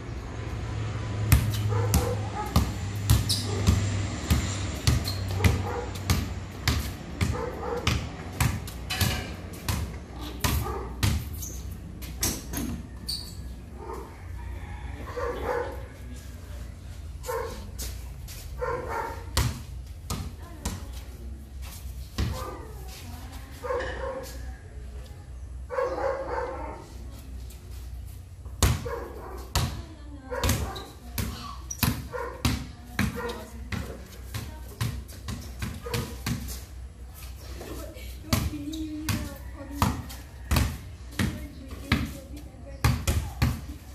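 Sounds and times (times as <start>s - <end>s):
basketballs bouncing on concrete: 0.8s - 16.6s, 17.2s - 23.7s, 28.4s - 43.9s.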